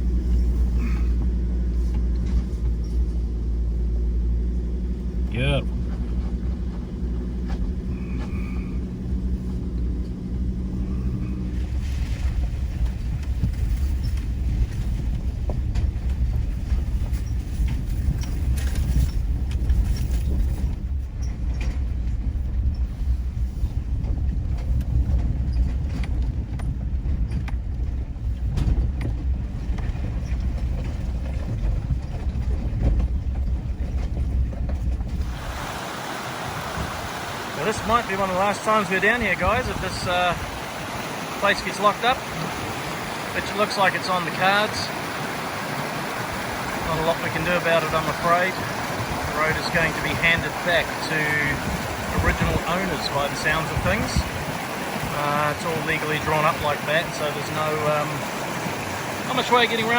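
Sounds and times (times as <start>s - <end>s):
engine rumble: 0.0s - 59.9s
knocks and rattles from bumps: 11.6s - 59.9s.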